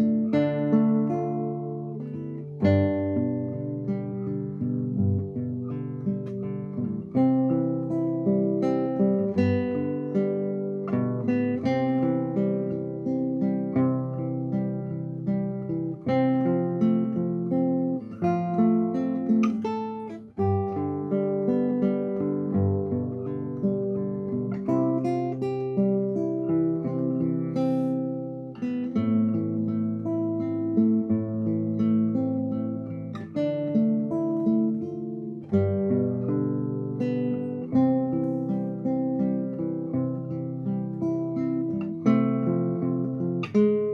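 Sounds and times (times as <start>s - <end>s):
solo classical guitar: 0.0s - 43.9s.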